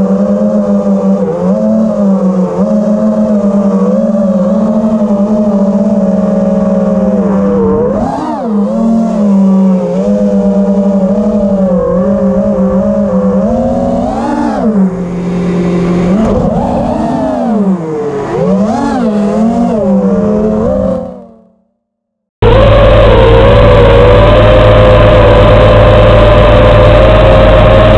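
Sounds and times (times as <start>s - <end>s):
drone motors whining: 0.0s - 21.7s, 22.4s - 27.9s.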